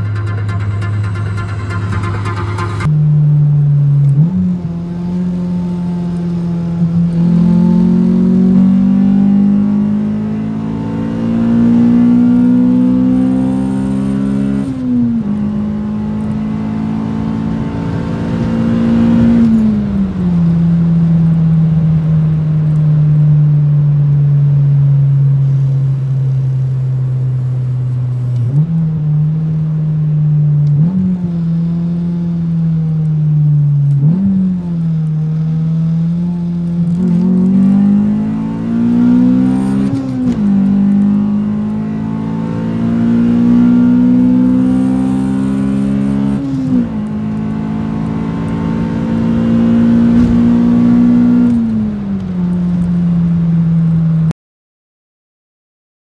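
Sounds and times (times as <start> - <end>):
car engine from inside cabin: 0.0 - 54.3.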